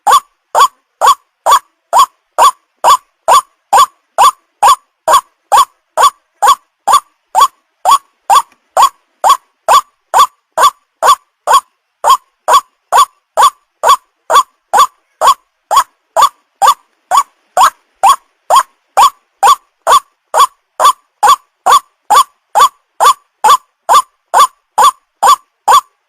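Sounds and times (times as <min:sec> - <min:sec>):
waterhen rising call notes: 0:00.0 - 0:25.9.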